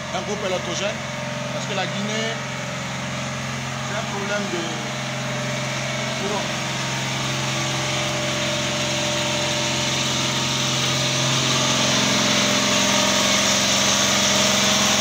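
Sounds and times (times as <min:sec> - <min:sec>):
diesel generator running: 0:00.0 - 0:15.0.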